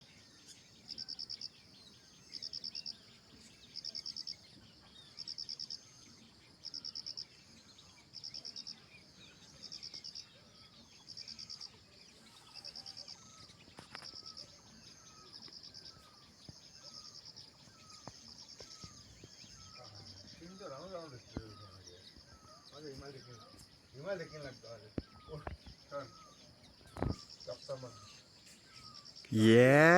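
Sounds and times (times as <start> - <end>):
faint bird chirps: 0.0 - 29.6.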